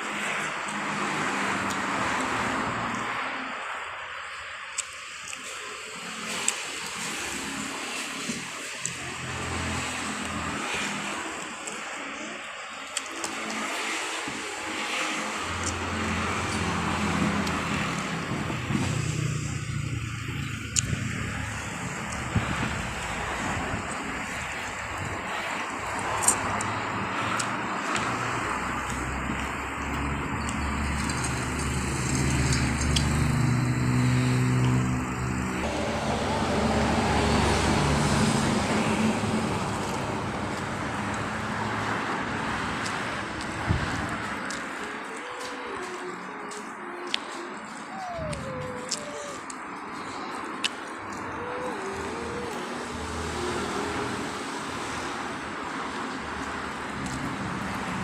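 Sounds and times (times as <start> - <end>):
traffic noise: 0.0 - 58.0
vehicle engine humming: 0.0 - 58.0.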